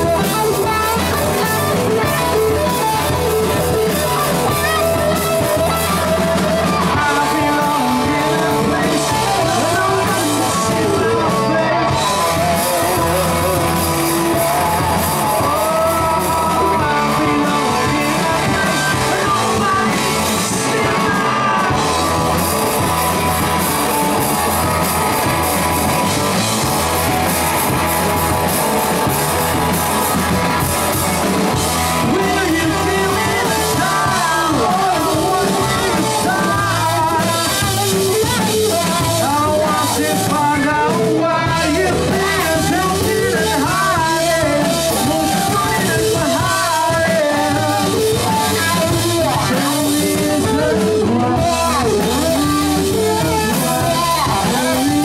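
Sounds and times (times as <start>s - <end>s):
man singing: 0.0s - 55.0s
rock band playing live: 0.0s - 55.0s.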